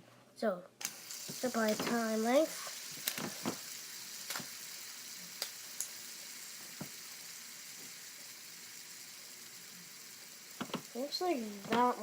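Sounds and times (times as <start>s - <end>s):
fidget spinners whirring: 0.8s - 12.0s.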